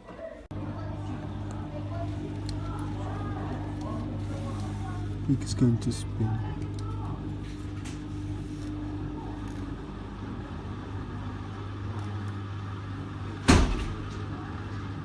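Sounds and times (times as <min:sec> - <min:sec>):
washing machine motor humming: 0:00.0 - 0:15.0.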